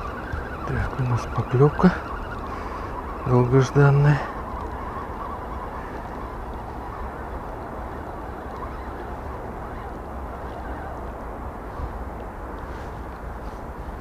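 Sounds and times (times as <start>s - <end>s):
low-pitched background noise: 0.0s - 14.0s.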